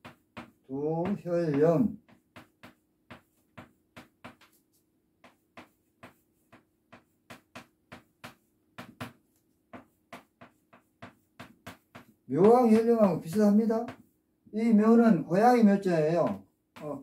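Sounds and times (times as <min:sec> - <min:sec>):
chalk tapping on blackboard: 0:00.0 - 0:17.0.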